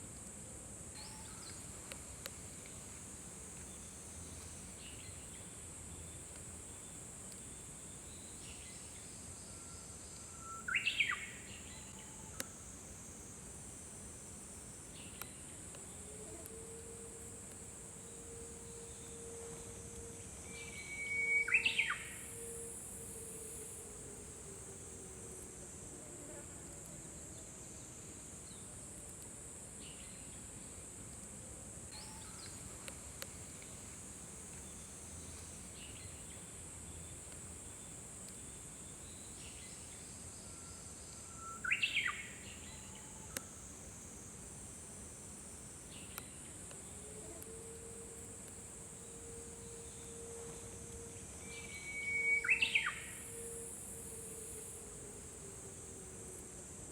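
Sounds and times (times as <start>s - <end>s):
high-pitched hiss: 0.0s - 56.9s.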